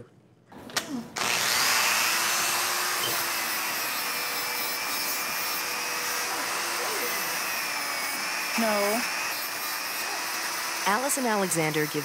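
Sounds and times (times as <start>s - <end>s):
nail grinder whirring: 1.2s - 12.0s.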